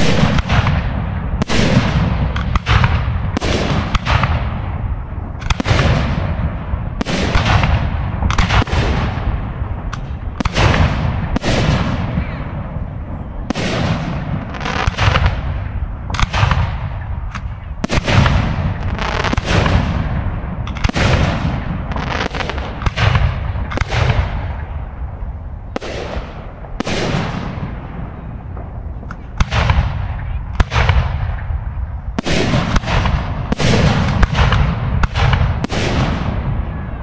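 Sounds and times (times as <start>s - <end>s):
fireworks bursting with hiss: 0.0s - 36.6s
low rumble: 0.0s - 37.0s.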